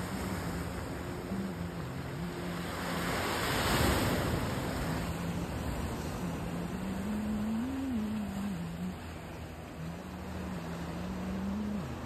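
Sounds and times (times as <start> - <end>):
faint low motor hum: 0.0 - 12.0
ocean surf washing over rocks: 0.0 - 12.0.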